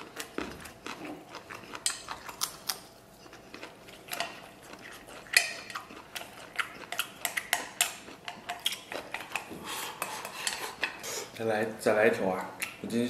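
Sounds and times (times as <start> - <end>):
chewing: 0.0 - 11.4.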